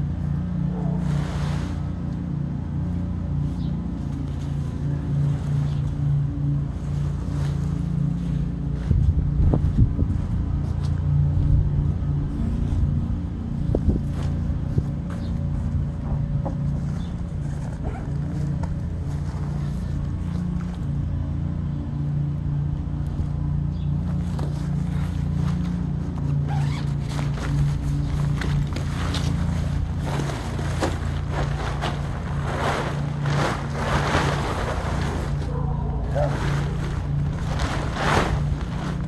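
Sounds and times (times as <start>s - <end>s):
tent fabric rustling and flapping: 0.0s - 16.1s, 16.7s - 21.0s, 23.9s - 39.0s
low hum: 0.0s - 39.0s
low motor drone: 0.0s - 39.0s.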